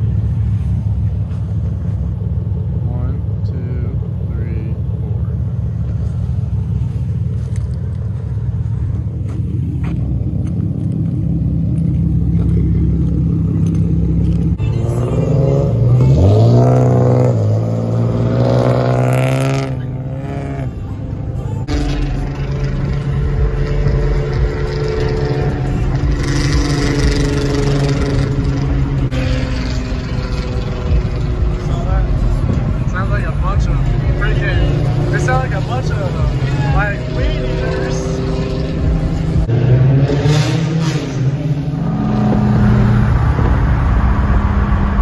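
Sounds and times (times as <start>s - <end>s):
car engine accelerating: 0.0s - 45.0s
engine and road drone: 0.0s - 45.0s.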